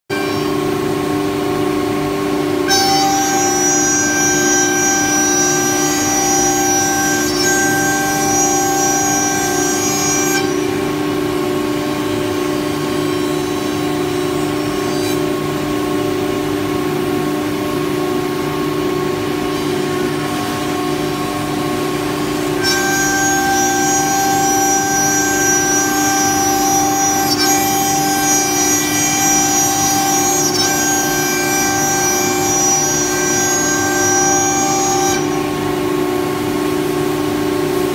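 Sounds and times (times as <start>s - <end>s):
cnc router machine hum: 0.1s - 37.9s
high spindle whine: 0.1s - 37.9s
router cutting panels: 0.1s - 37.9s.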